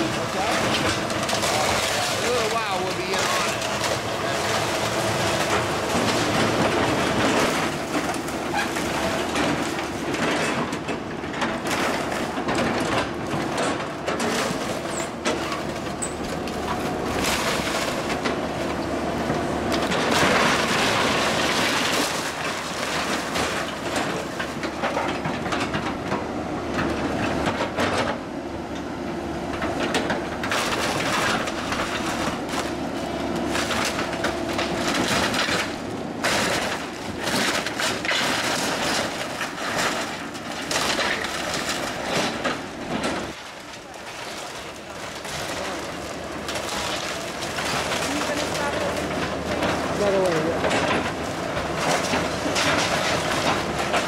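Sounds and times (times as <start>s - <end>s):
wood cracking and splintering: 0.0s - 28.8s, 29.4s - 54.0s
excavator engine running: 0.0s - 54.0s.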